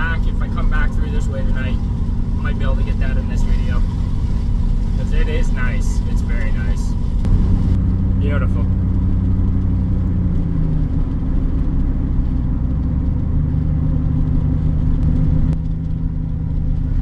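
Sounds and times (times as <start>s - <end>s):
engine and road noise drone: 0.0s - 17.0s.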